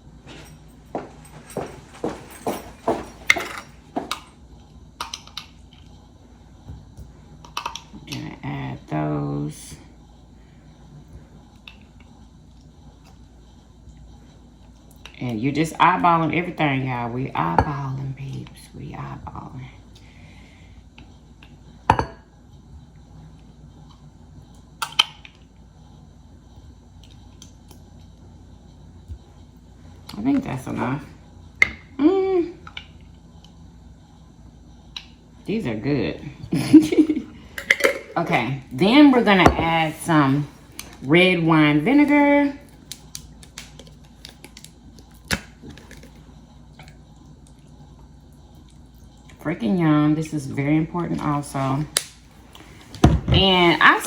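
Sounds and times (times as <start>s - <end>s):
faint room hum: 0.0s - 54.0s.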